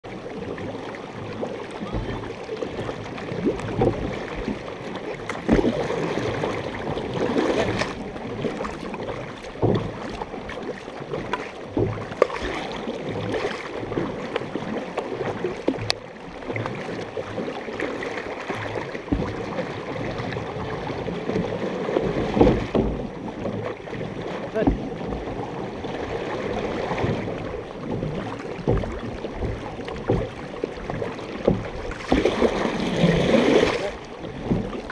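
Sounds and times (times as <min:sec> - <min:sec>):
paddle strokes splashing: 0:00.0 - 0:34.9
water rushing along canoe hull: 0:00.0 - 0:34.9.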